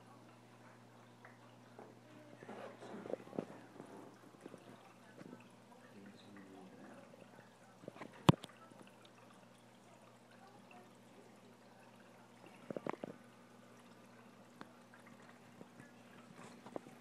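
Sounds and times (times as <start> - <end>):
trickling aquarium water: 0.0 - 17.0.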